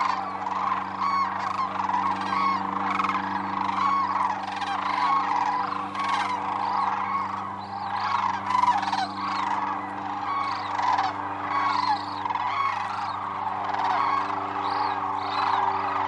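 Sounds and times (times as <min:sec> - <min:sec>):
cranes calling in chorus: 0:00.0 - 0:16.0.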